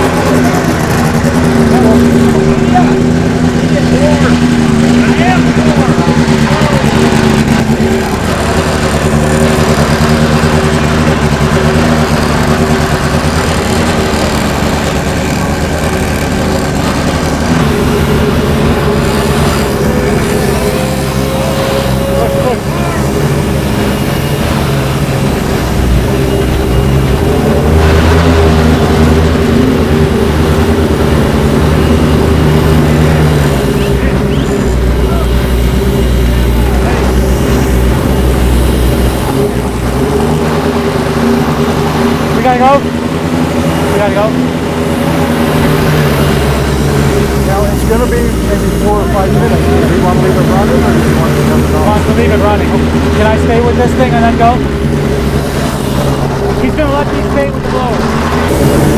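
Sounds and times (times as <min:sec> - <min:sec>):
race car engine idling: 0:00.0 - 0:58.9.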